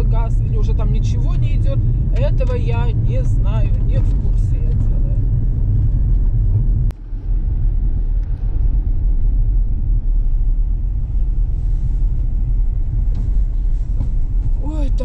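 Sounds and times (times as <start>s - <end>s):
car rumbling on dirt road: 0.0s - 15.0s.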